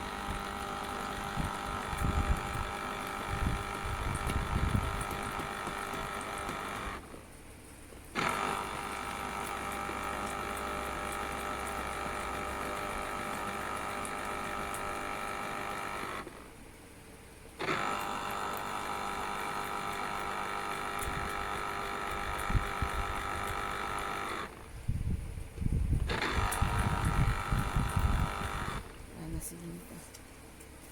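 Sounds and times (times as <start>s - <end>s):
citrus juicer motor running: 0.0s - 7.2s, 8.1s - 16.6s, 17.6s - 25.0s, 25.9s - 29.2s.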